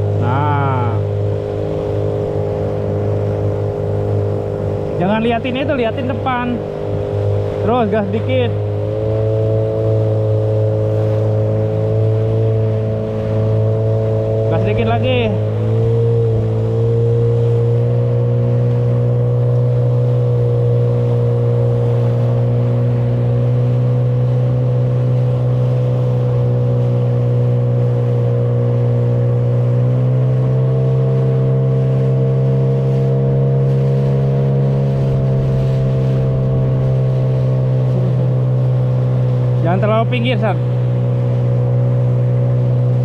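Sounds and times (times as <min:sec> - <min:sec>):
outboard motor running: 0:00.0 - 0:43.0
water rushing along hull: 0:00.0 - 0:43.0.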